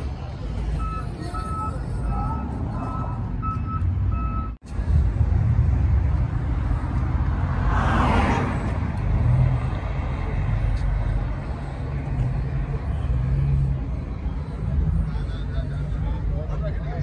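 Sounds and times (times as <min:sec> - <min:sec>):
truck engines rumbling: 0:00.0 - 0:17.0.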